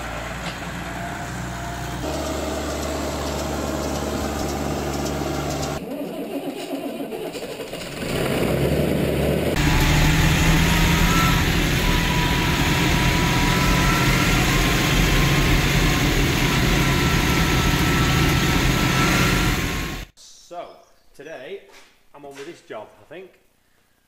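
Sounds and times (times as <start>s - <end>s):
engine idling: 0.0s - 20.1s
tractor engine running: 0.0s - 20.1s.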